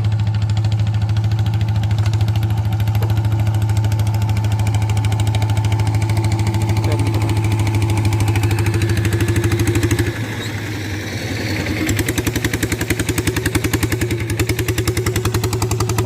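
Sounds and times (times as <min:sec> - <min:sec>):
walking tractor engine running: 0:00.0 - 0:16.0.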